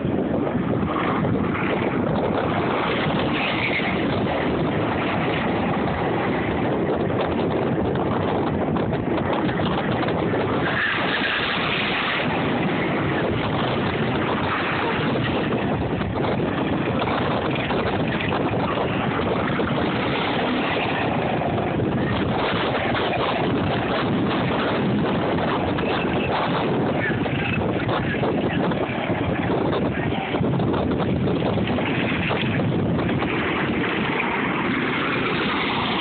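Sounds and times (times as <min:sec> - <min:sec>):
go-kart engines running: 0:00.0 - 0:36.0
wind noise on microphone: 0:00.0 - 0:36.0.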